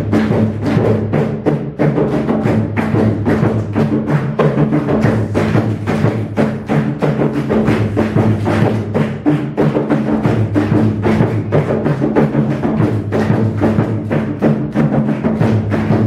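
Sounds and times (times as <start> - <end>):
drums beating a dance rhythm: 0.0 - 16.0.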